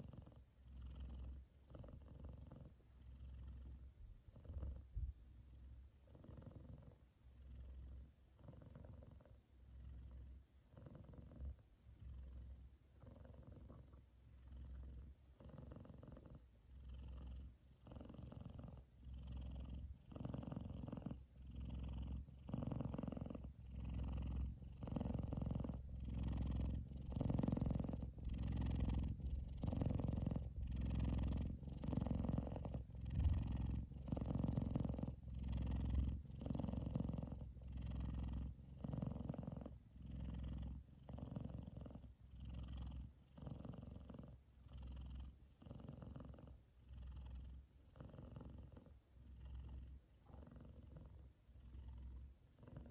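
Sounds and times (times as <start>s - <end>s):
cat purring: 0.0s - 52.9s.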